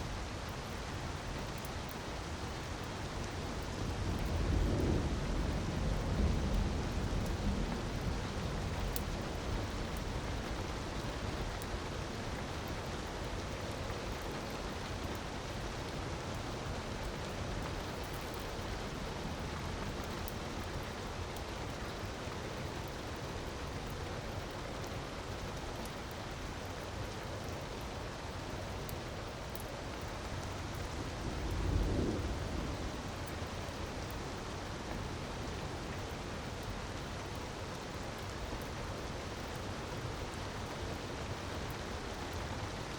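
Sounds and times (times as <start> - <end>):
wood fire crackles: 0.0 - 42.9.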